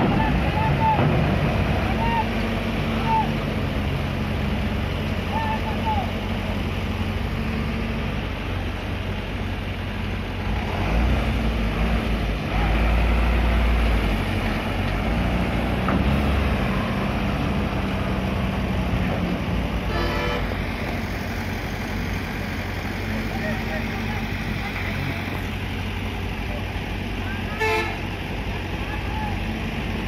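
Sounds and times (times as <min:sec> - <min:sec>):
low engine drone: 0:00.0 - 0:30.0
truck engines driving off: 0:00.0 - 0:30.0
truck passing close: 0:00.0 - 0:30.0.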